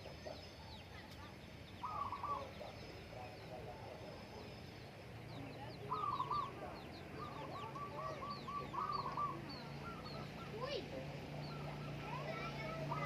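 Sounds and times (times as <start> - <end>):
short low bird calls: 0.0 - 3.7, 4.4 - 13.0
small birds chirping: 0.0 - 13.0.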